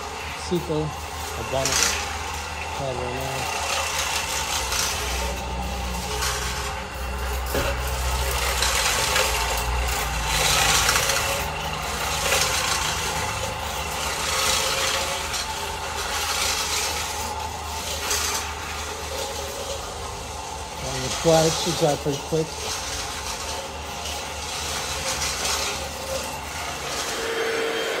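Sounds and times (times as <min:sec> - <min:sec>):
floor machine motor hum: 0:00.0 - 0:28.0
pad scrubbing floor: 0:00.0 - 0:28.0.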